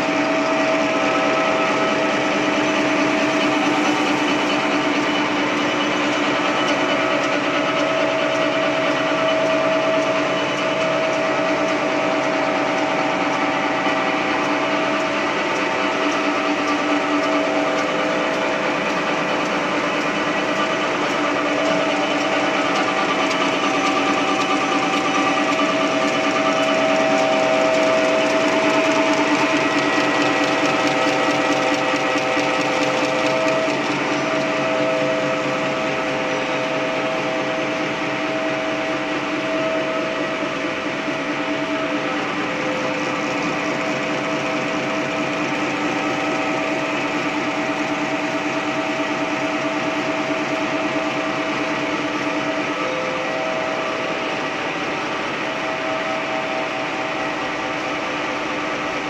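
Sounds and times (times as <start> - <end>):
folding machine whirring: 0.0 - 59.0.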